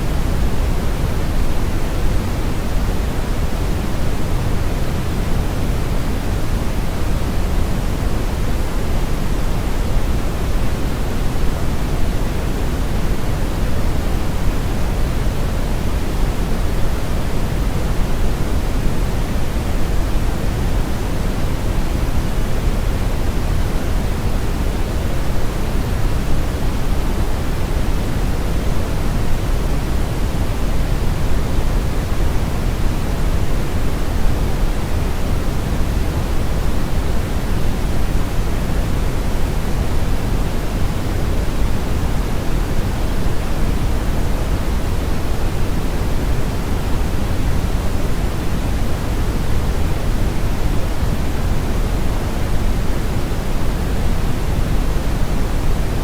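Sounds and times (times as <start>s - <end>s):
deep brown noise hiss: 0.0s - 56.0s
white noise hiss: 0.0s - 56.0s.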